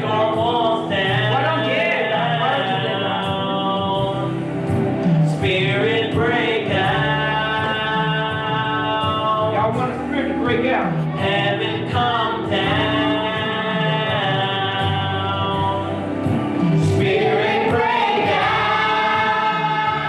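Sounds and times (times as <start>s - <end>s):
gospel voices singing held notes: 0.0s - 20.0s.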